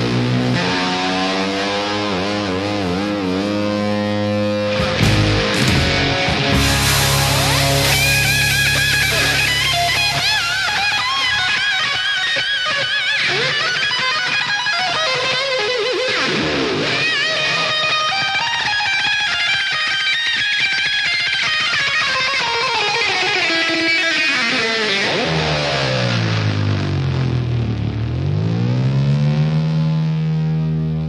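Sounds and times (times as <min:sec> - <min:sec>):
rock music with electric guitar: 0:00.0 - 0:31.0.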